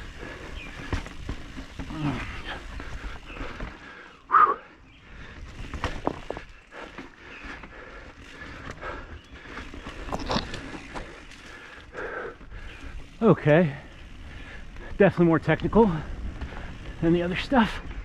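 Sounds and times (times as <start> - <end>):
mountain bike rattling over rocks: 0.0 - 4.1, 4.9 - 18.0.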